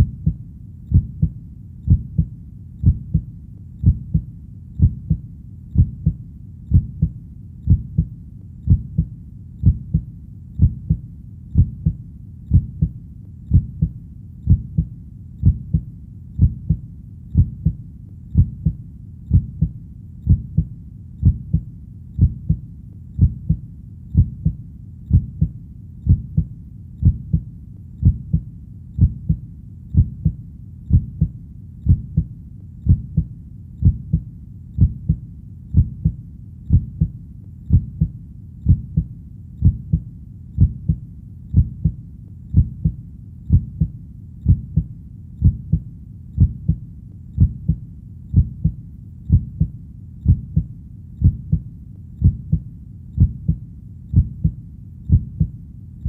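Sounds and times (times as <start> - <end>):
deep heartbeat thuds: 0.0 - 22.6, 23.2 - 46.8, 47.4 - 55.6.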